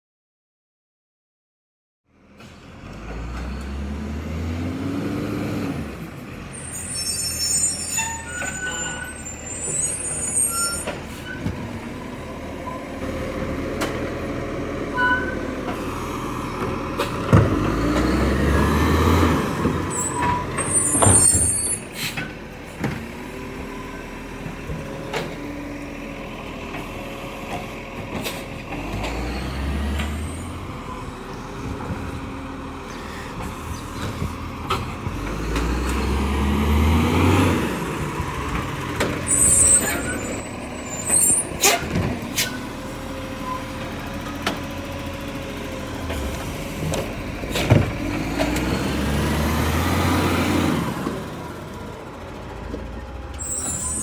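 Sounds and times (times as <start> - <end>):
diesel engine revving: 2.3 - 54.0.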